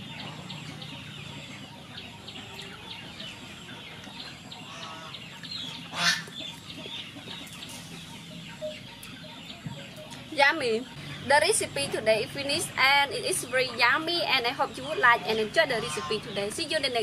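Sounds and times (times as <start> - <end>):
chickens clucking: 0.0 - 17.0
small birds chirping: 0.0 - 17.0.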